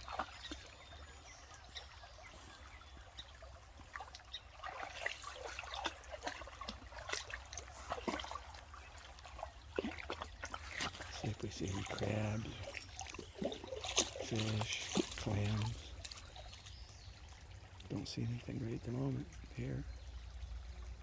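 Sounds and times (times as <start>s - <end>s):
creek water running and splashing: 0.0s - 21.0s.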